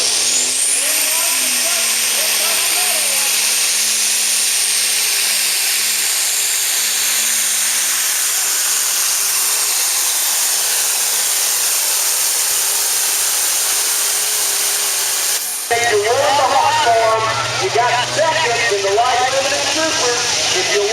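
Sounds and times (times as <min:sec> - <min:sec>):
faint turbo whine: 0:00.0 - 0:11.2, 0:13.4 - 0:20.9
tractor engine at full throttle: 0:00.0 - 0:20.9.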